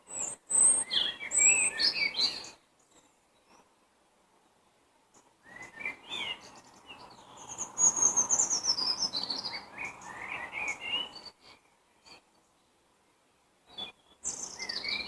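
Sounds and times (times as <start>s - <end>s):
soft rushing hiss: 0.0s - 14.8s
songbirds singing and chirping: 0.0s - 15.0s.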